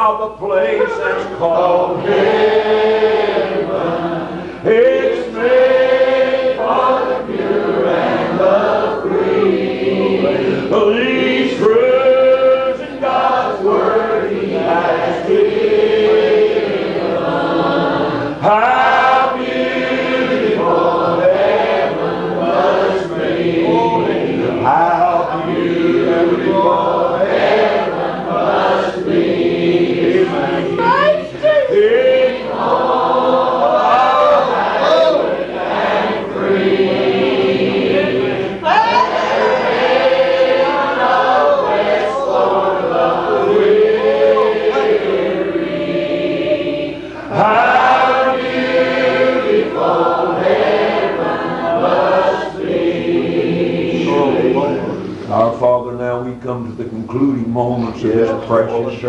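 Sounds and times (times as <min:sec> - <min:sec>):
congregation singing: 0:00.0 - 0:59.0.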